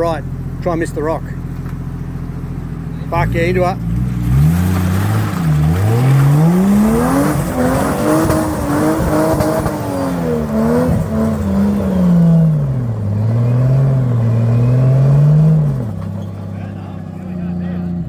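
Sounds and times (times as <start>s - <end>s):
engine revving hard: 3.2s - 18.0s.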